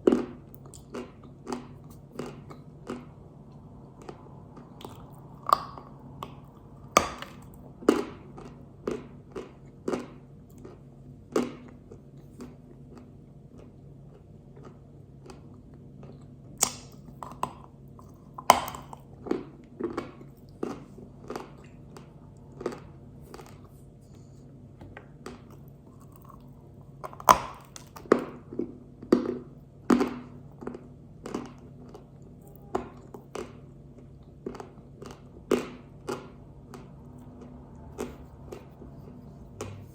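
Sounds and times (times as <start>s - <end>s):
clay being chewed crunching: 0.0s - 39.9s.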